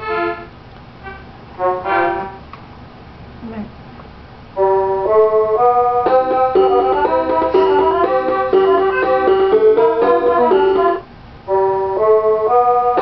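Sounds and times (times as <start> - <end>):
electronic keyboard notes: 0.0 - 2.5, 4.6 - 13.0.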